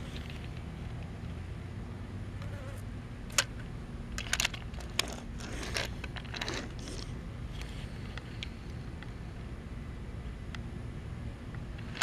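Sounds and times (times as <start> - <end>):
low buzzing hum: 0.0 - 12.0.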